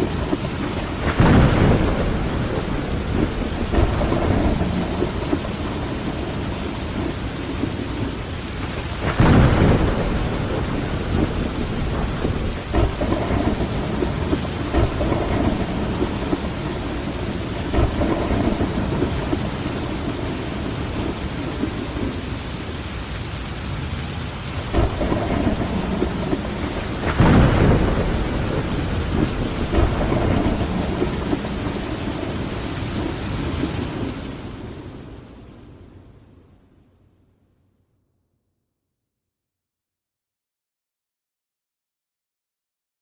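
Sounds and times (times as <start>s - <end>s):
rumbles of thunder: 0.0s - 36.0s
rain on a window: 0.0s - 37.2s.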